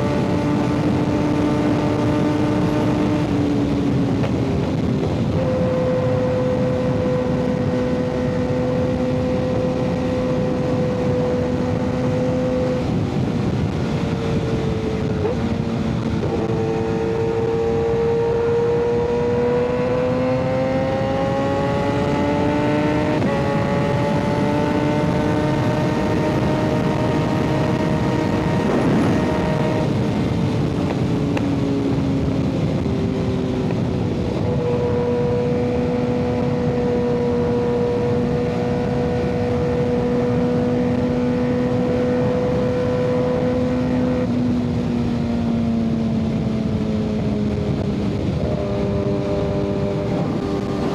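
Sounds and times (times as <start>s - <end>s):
motorcycle engine while riding: 0.0s - 50.9s.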